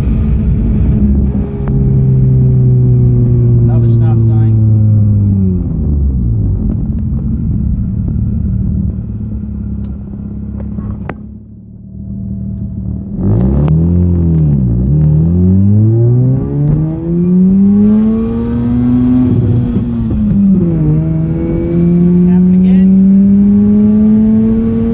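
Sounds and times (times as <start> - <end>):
rotary engine idling and revving: 0.0 - 24.9.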